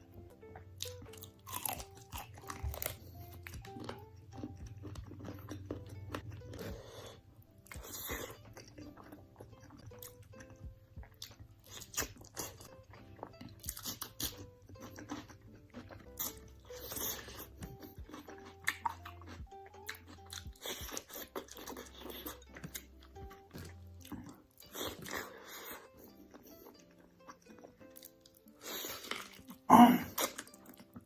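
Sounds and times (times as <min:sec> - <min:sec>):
soft background music: 0:00.0 - 0:31.0
crunchy food chewing: 0:00.8 - 0:31.0.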